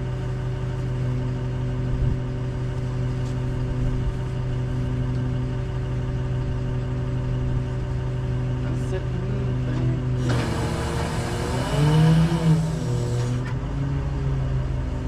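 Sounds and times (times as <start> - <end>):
machine engine idling: 0.0 - 15.0.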